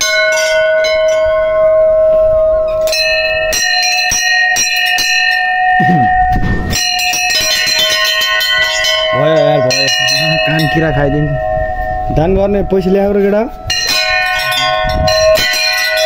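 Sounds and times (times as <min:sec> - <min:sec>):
brass bells ringing: 0:00.0 - 0:16.0.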